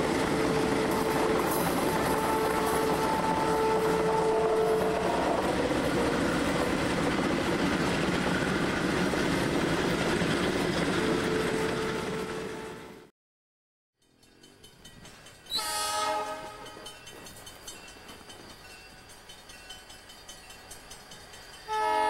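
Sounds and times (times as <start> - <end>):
train wheels clattering over rails: 0.0 - 11.1, 14.0 - 21.7.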